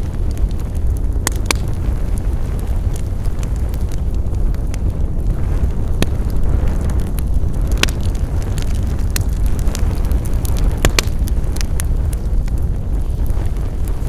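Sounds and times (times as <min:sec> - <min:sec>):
low rumble of burning fire: 0:00.0 - 0:14.0
wood fire crackling: 0:00.0 - 0:14.0.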